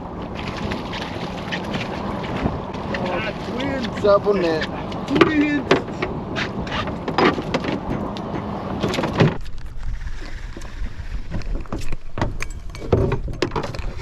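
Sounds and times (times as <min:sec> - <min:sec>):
wind rumbling on microphone: 0:00.0 - 0:14.0
knocks and clatter on boat: 0:00.1 - 0:14.0.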